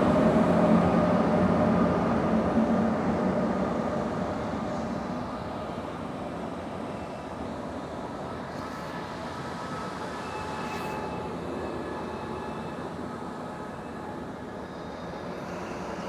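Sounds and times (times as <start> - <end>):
diesel locomotive engine hum: 0.0 - 16.0.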